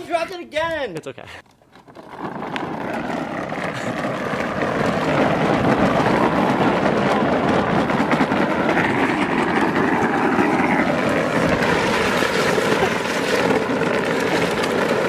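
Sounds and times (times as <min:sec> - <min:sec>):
plastic wheels rolling on concrete: 0:01.4 - 0:15.0.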